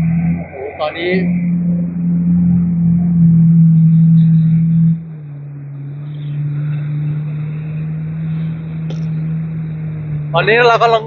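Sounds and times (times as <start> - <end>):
jet ski engine drone: 0.0 - 11.0.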